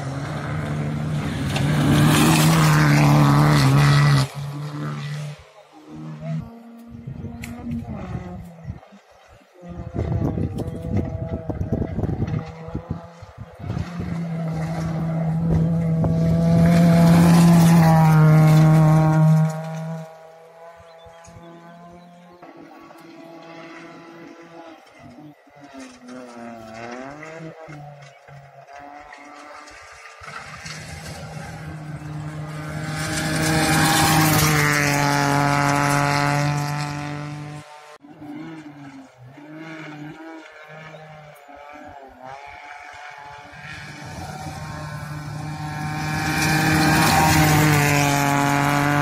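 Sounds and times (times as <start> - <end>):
rally car engine at high revs: 0.0 - 49.0.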